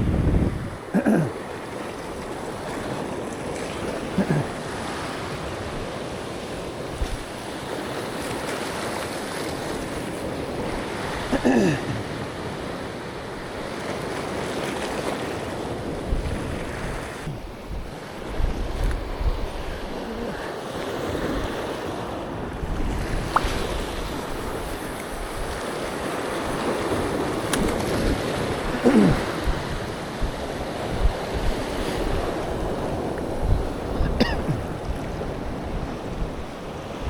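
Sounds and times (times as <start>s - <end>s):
sea waves washing on shore: 0.0s - 37.0s
wind: 0.0s - 37.0s.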